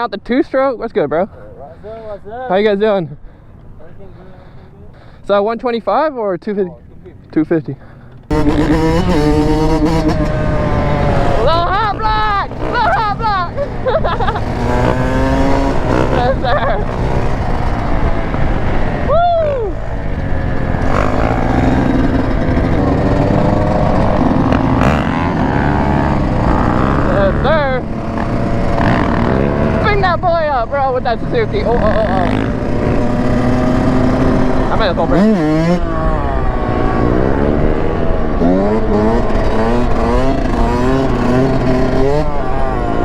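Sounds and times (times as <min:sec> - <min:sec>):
dirt bike engine running: 0:06.8 - 0:43.0.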